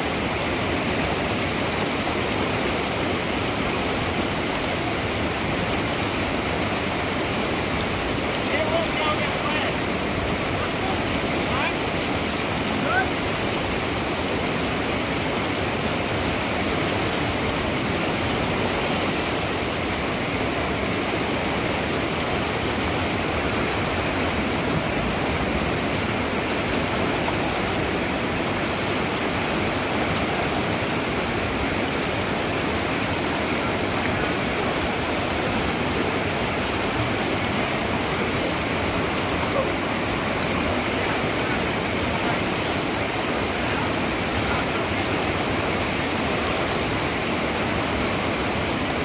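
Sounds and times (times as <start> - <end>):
river rapids rushing: 0.0 - 49.0.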